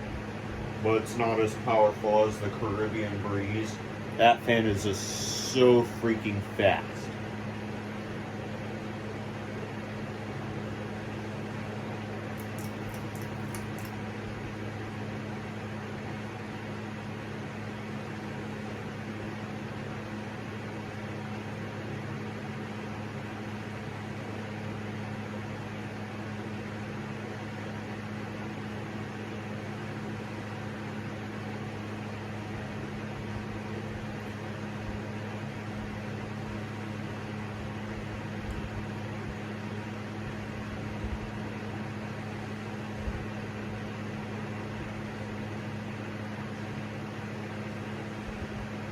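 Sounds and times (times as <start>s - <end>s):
electric fan running: 0.0s - 48.9s.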